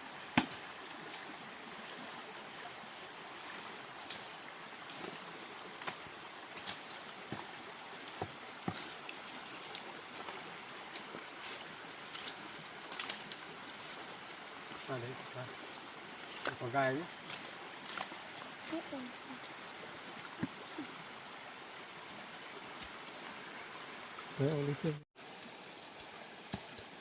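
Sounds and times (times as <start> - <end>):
stream running: 0.0 - 27.0.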